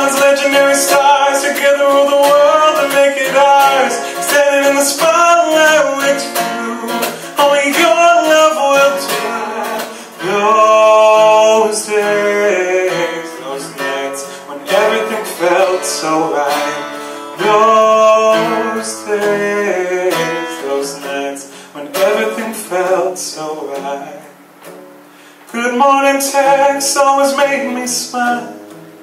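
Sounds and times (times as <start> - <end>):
person singing: 0.0 - 24.3
strummed acoustic guitar: 0.0 - 29.0.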